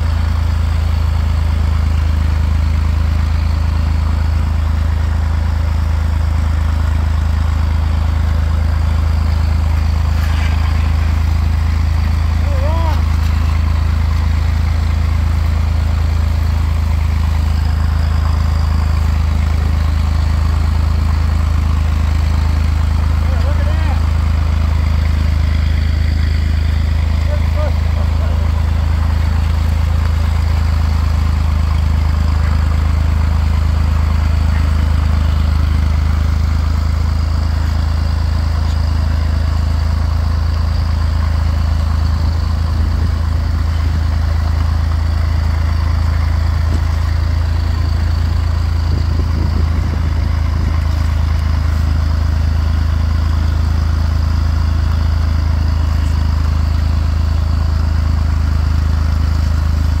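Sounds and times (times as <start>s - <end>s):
tractor engine under load: 0.0s - 60.0s.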